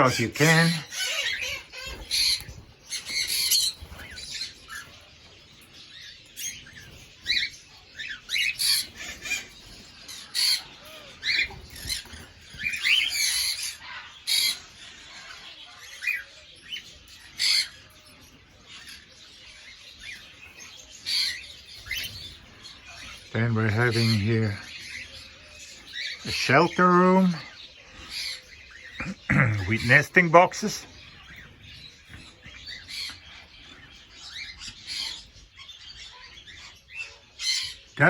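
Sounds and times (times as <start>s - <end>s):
cockatiels chirping and squawking: 0.0s - 38.0s.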